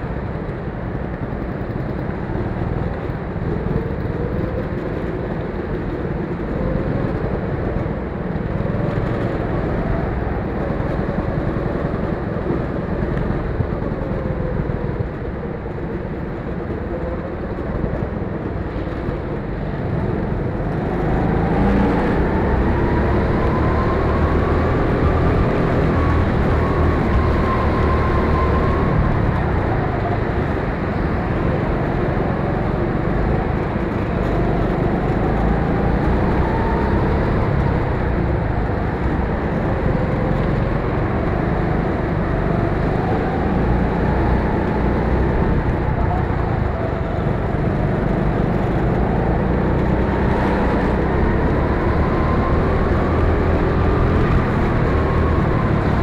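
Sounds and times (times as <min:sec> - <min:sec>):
rumble of wind and tyres: 0:00.0 - 0:56.0.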